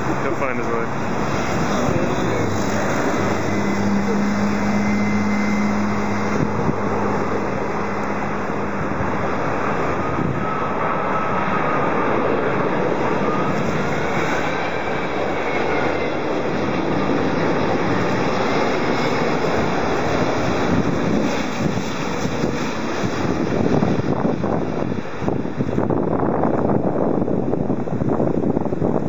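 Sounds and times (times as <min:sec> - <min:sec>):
faint engine whine: 0:00.0 - 0:29.0
jet engines rumbling: 0:00.0 - 0:29.0.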